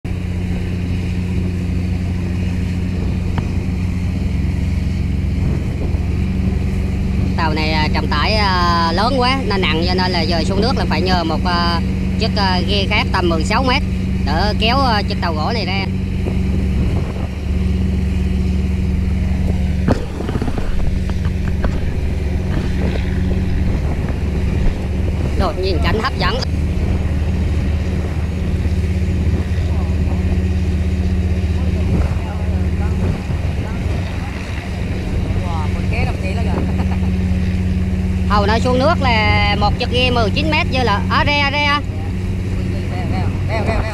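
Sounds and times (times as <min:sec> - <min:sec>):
diesel boat engine droning: 0:00.0 - 0:43.9.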